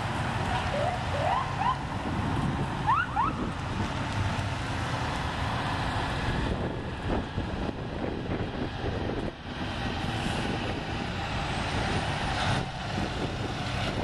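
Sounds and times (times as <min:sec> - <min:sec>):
passing vehicles rumble: 0:00.0 - 0:14.0
wind buffeting microphone: 0:00.0 - 0:14.0.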